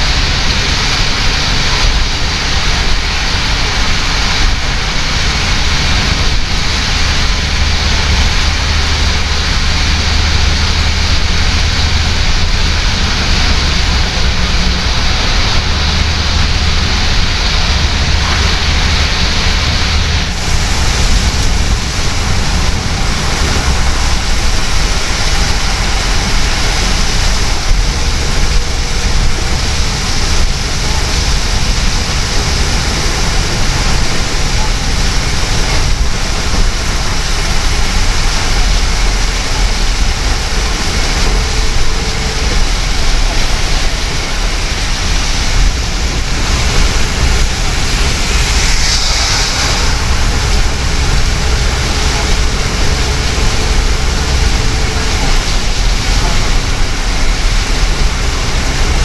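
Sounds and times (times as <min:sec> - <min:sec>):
low engine and road rumble: 0:00.0 - 0:59.0
rain on car: 0:00.0 - 0:59.0
tyres hissing on wet road: 0:00.0 - 0:59.0.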